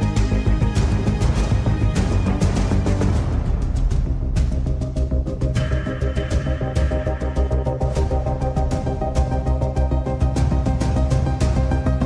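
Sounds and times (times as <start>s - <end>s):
background music with percussion: 0.0s - 12.0s.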